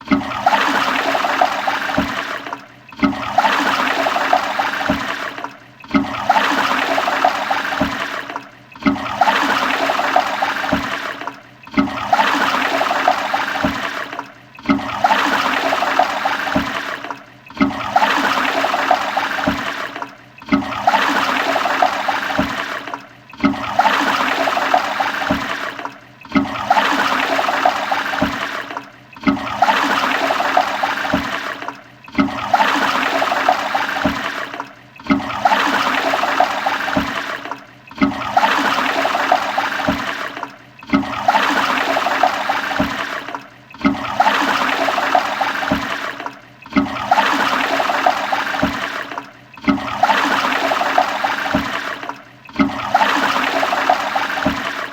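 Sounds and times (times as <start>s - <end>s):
toilet flushing: 0.0s - 54.9s.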